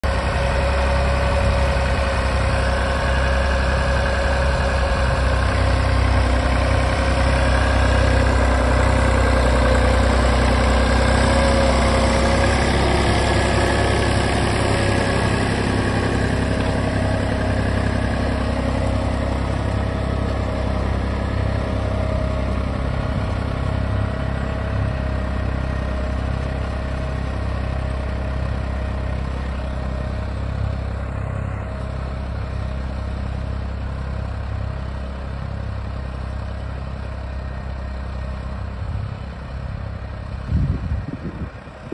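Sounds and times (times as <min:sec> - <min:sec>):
tractor diesel engine under load: 0:00.0 - 0:41.9.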